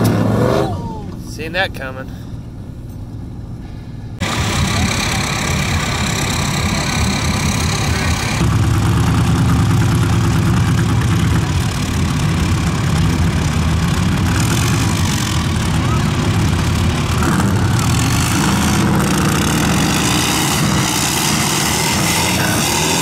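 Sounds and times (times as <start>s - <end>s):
truck engines running: 0.0s - 23.0s.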